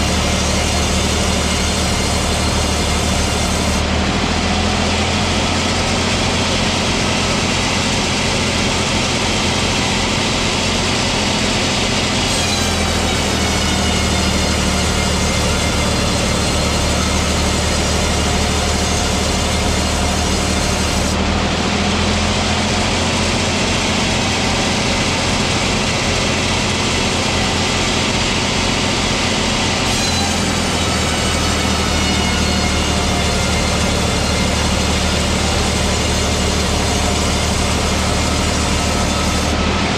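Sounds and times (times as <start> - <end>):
high saw whine: 0.0 - 39.9
low engine drone: 0.0 - 39.9.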